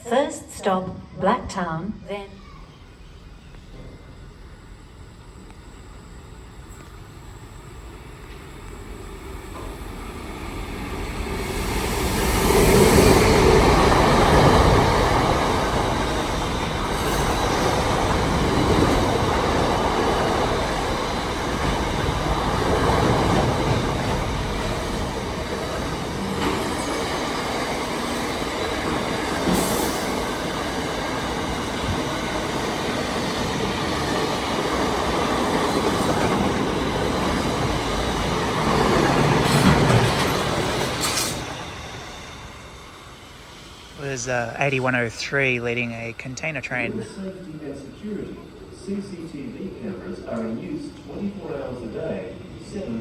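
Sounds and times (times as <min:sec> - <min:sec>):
freight train passing: 0:02.1 - 0:53.0.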